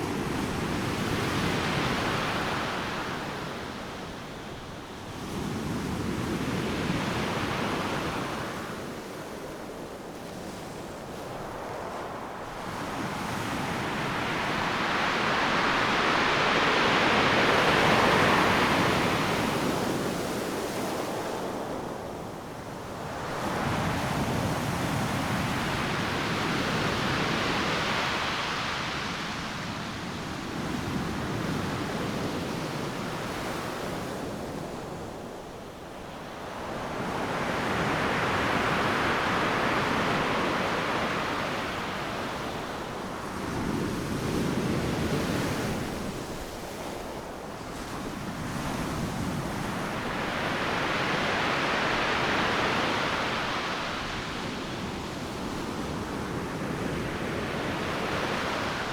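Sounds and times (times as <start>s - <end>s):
ocean waves breaking on beach: 0.0s - 58.9s.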